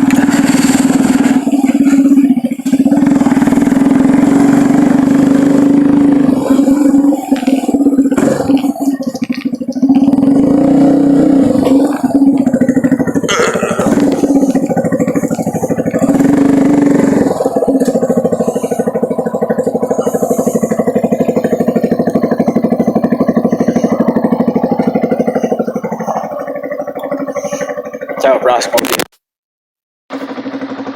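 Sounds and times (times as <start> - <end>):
vehicle engine running: 0.0 - 29.1, 30.1 - 30.9.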